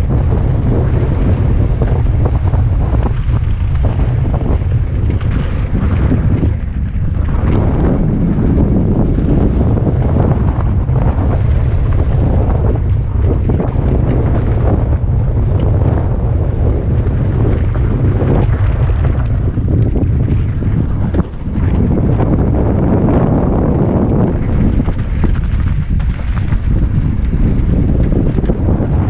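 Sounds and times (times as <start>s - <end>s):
bike rattles and knocks: 0.0s - 29.0s
tyres rumbling on rough trail: 0.0s - 29.0s
wind buffeting microphone: 0.0s - 29.0s.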